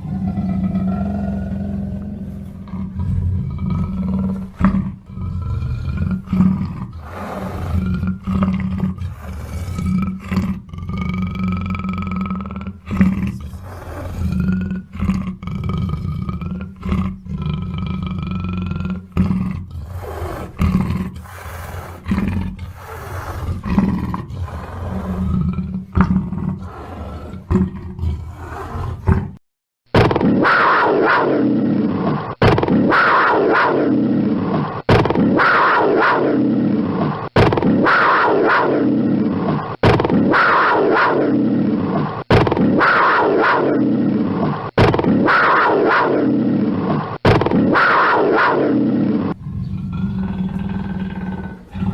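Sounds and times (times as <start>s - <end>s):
big cat growling: 0.0s - 29.4s, 30.0s - 51.9s
big cat roaring: 0.0s - 29.4s, 30.0s - 51.9s.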